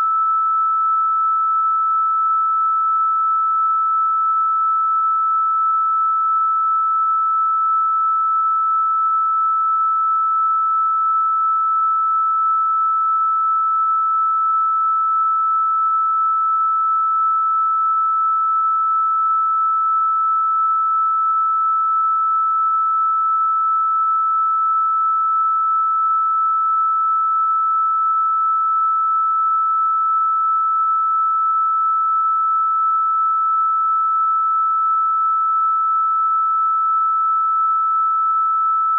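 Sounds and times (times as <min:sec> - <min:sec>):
high electronic sine tone: 0:00.0 - 0:38.9.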